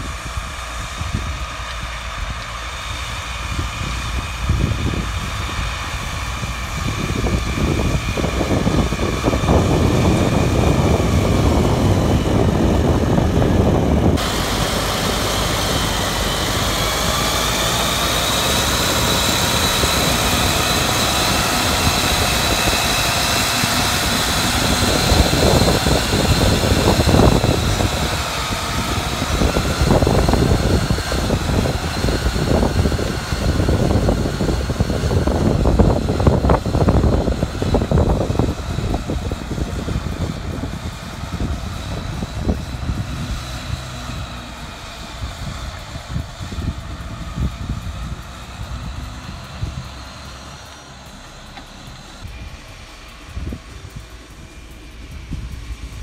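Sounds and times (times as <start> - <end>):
high steady whine: 0.0 - 56.0
tractor diesel engine under load: 0.0 - 56.0.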